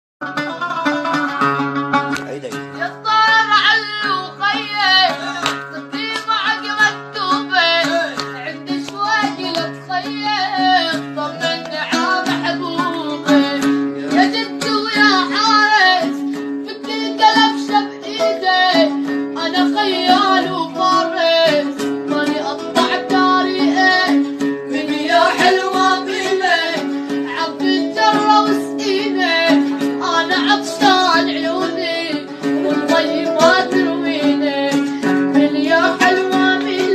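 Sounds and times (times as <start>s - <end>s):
plucked string instrument: 0.2s - 36.9s
man singing folk song: 1.5s - 36.9s.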